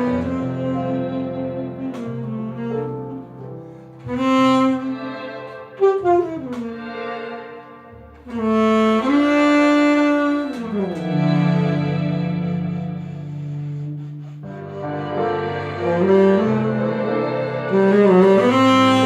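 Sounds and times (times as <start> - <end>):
saxophone melody: 0.0 - 19.0
soft accompaniment with bass: 0.0 - 19.0.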